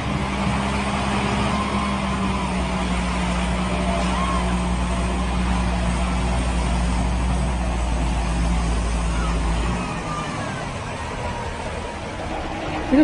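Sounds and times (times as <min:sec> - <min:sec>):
constant background noise: 0:00.0 - 0:13.0
vehicle engine droning: 0:00.0 - 0:13.0.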